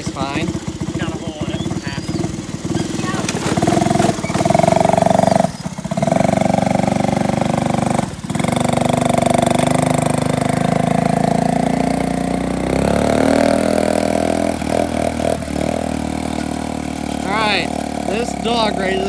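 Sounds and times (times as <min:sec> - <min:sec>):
small vehicle engine running: 0:00.0 - 0:19.0.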